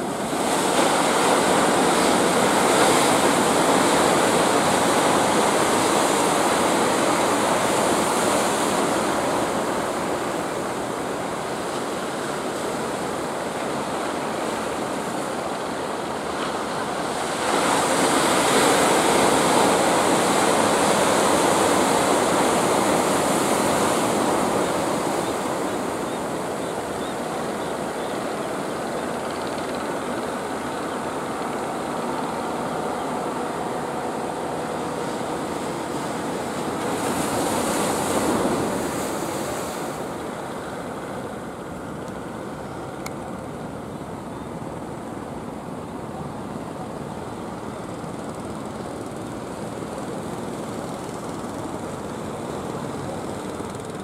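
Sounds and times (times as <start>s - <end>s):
waves and surf washing: 0.0s - 54.0s.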